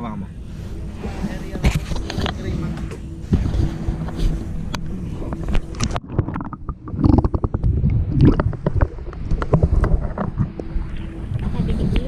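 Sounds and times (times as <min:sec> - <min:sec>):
water rumble: 0:00.0 - 0:12.0
wind on microphone: 0:00.0 - 0:12.0.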